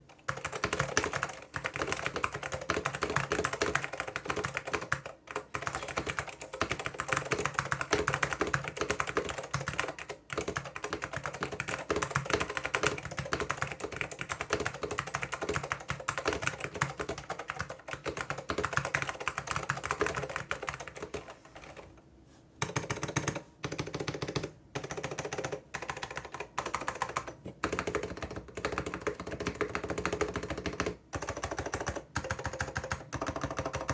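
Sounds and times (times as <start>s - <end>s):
fast typing on keyboard: 0.2s - 21.9s, 22.6s - 33.9s.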